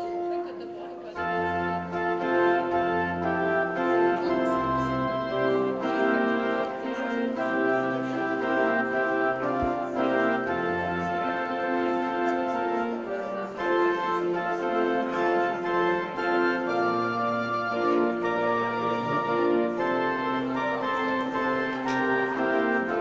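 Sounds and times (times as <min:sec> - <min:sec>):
sustained organ chords: 0:00.0 - 0:23.0.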